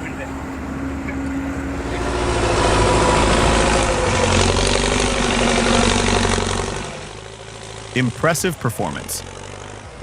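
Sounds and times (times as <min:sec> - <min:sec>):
heavy vehicle engine running hard: 0:00.0 - 0:10.0.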